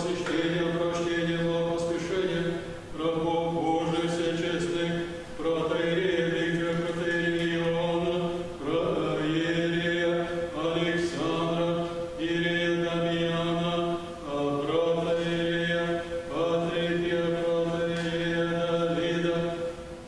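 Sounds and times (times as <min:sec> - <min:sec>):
voices chanting: 0:00.0 - 0:19.8.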